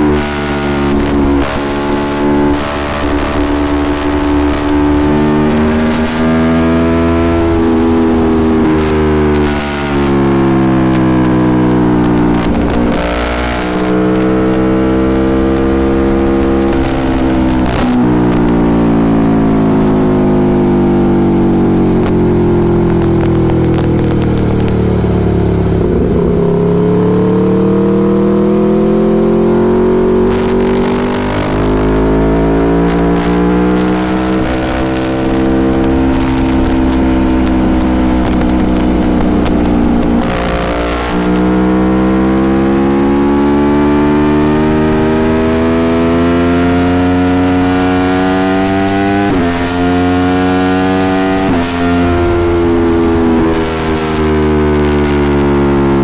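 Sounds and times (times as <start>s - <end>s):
motorcycle engine revving: 0.0s - 56.0s
wind rushing over microphone: 0.0s - 56.0s.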